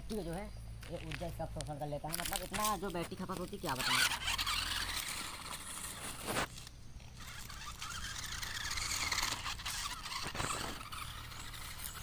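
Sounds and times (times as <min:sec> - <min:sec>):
toy truck electric motors whining: 0:02.1 - 0:12.0.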